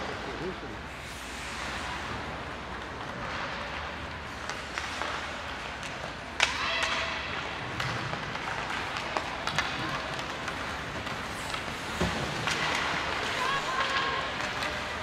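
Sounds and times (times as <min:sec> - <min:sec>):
hockey sticks and puck clicking: 0:02.0 - 0:15.0.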